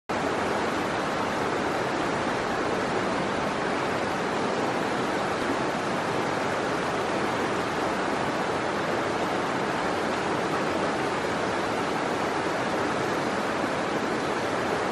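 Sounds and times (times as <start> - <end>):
creek water rushing over stones: 0.1 - 14.9.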